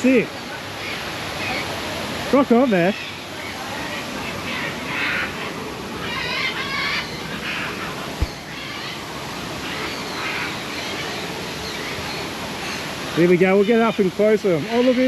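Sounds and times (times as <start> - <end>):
waterfall rushing: 0.0 - 15.0
birds calling: 0.1 - 15.0.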